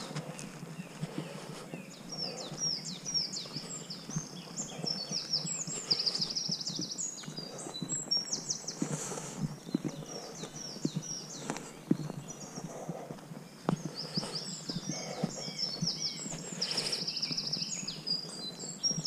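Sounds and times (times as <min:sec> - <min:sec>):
footsteps on dirt path: 0:00.0 - 0:19.0
songbird singing: 0:00.0 - 0:19.0.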